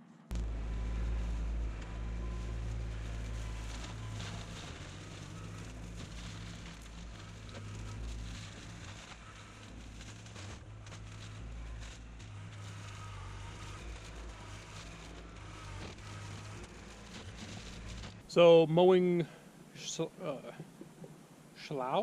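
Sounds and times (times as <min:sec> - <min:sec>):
tractor diesel engine running: 0:00.3 - 0:18.4
crackling and snapping: 0:00.3 - 0:18.5.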